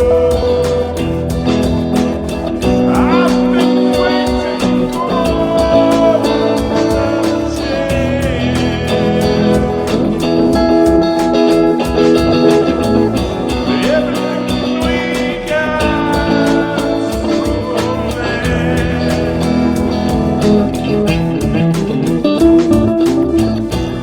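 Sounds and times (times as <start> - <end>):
band playing improvised music: 0.0 - 24.0
guitar notes: 0.0 - 24.0
steady drum beat: 0.0 - 24.0.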